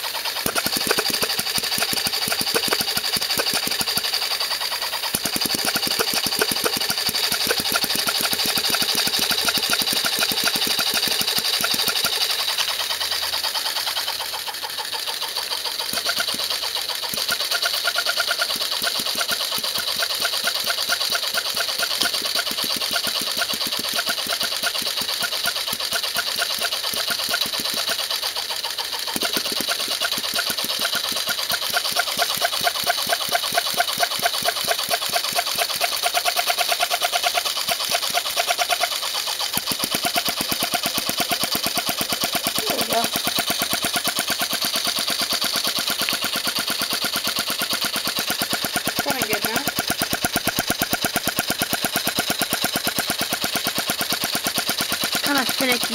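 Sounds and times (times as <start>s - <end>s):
fast mechanical clatter: 0.0s - 55.9s.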